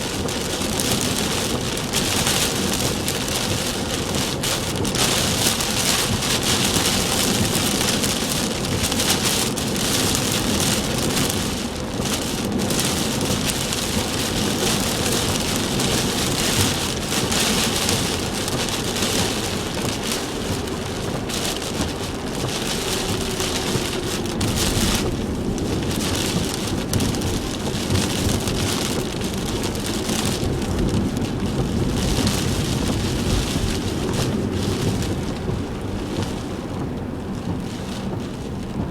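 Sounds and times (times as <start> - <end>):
car road and engine noise: 0.0 - 38.9
heavy rain pelting a car: 0.0 - 38.9.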